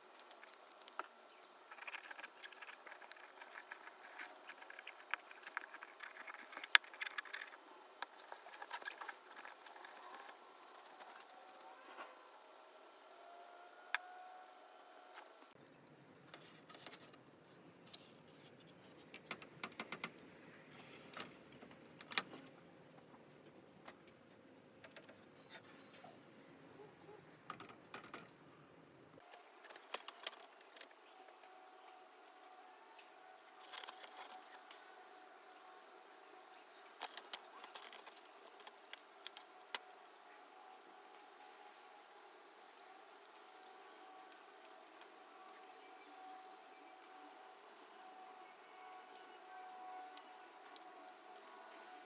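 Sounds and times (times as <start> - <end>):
faint background hum: 0.0 - 52.0.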